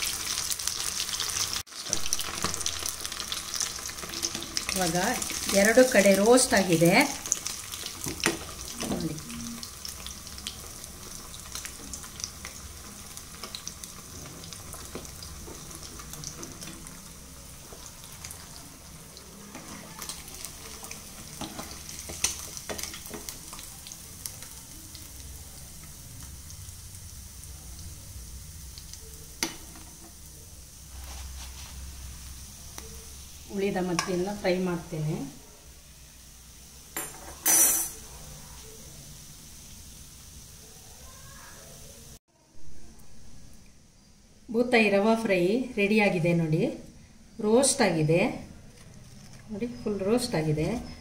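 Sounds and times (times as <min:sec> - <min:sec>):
hot oil sizzling: 0:00.0 - 0:42.2, 0:42.8 - 0:51.0.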